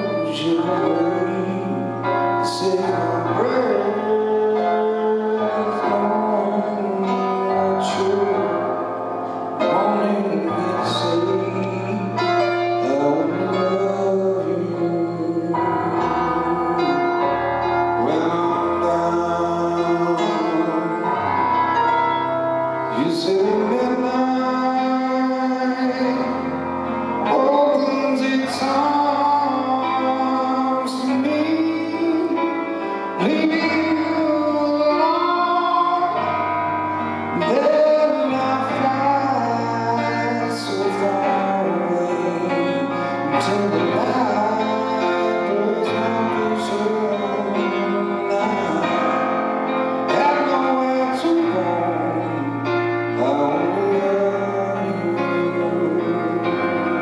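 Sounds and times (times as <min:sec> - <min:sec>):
keyboard chords: 0:00.0 - 0:57.0
man singing slow song: 0:00.0 - 0:57.0.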